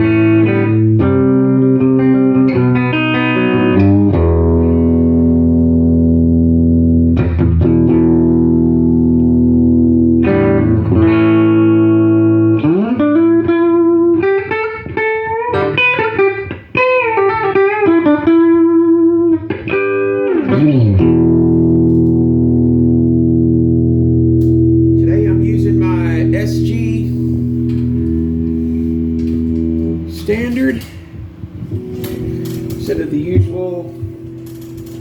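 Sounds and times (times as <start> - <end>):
electric guitar chords: 0.0 - 35.0
electric guitar lead lines: 0.0 - 35.0.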